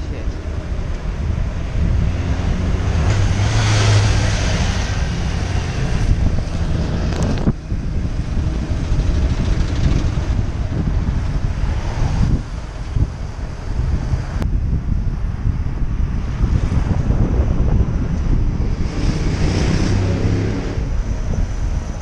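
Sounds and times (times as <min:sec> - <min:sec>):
passing vehicle engine hum: 0:00.0 - 0:22.0
road traffic: 0:00.0 - 0:22.0
wind buffeting microphone: 0:00.0 - 0:22.0.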